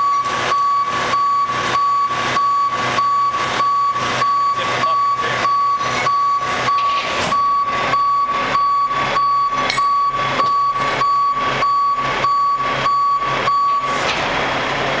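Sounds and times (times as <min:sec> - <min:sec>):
warning beeper beeping: 0:00.0 - 0:14.0
truck and hydraulics running: 0:00.0 - 0:15.0.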